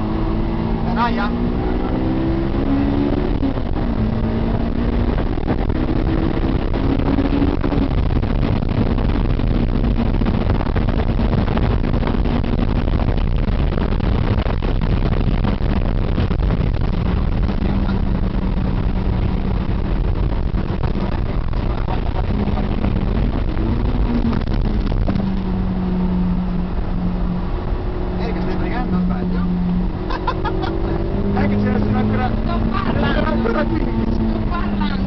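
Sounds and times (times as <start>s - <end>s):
car engine at high revs: 0.0s - 35.0s
wind and road noise: 0.0s - 35.0s.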